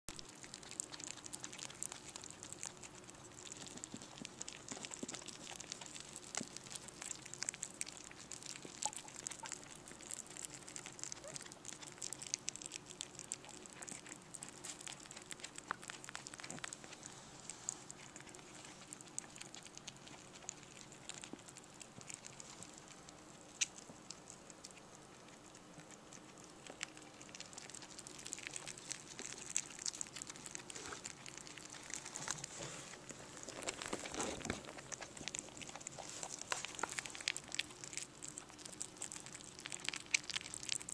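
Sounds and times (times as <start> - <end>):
rabbit chewing clicks: 0.1 - 40.9.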